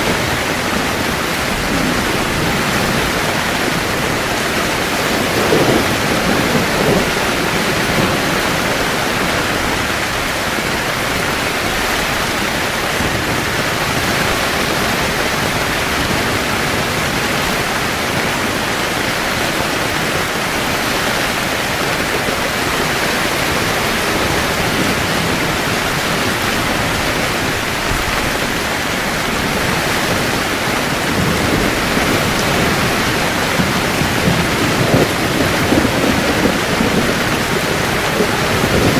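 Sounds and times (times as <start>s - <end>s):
heavy rain on a tent: 0.0s - 38.9s
thunder rumbling: 0.0s - 38.9s.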